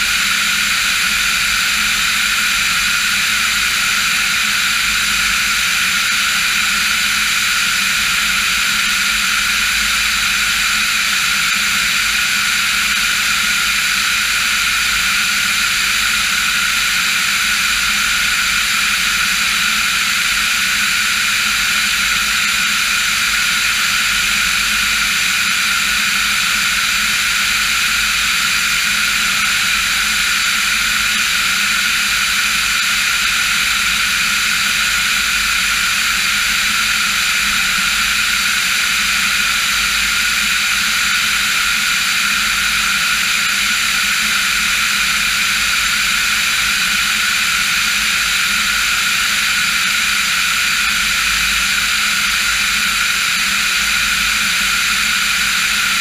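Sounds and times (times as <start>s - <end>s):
light aircraft engine and propeller drone: 0.0s - 56.0s.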